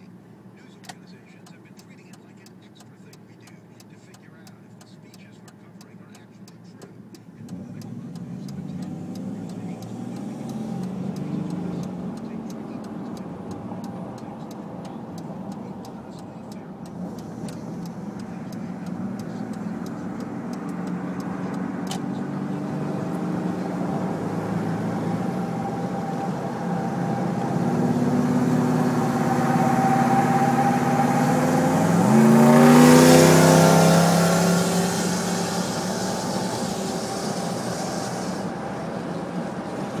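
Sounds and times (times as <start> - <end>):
car engine accelerating: 0.0 - 40.0
wind and road noise: 6.4 - 40.0.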